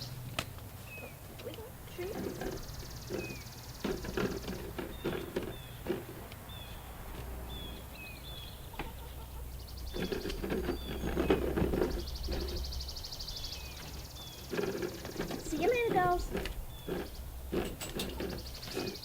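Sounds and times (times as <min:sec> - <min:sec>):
hens clucking: 0:00.8 - 0:19.0
small bird chirping: 0:00.8 - 0:19.0.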